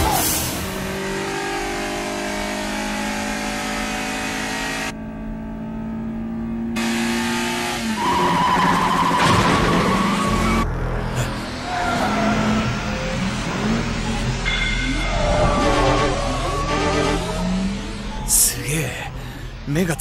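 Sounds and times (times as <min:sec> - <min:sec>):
racing car engine at high revs: 0:00.0 - 0:18.6.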